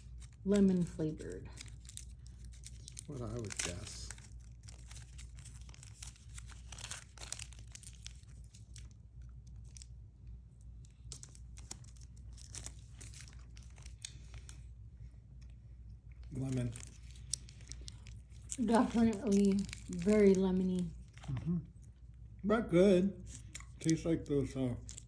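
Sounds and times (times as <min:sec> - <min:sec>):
plastic wrapper crinkling: 0:00.0 - 0:22.2, 0:23.2 - 0:25.0.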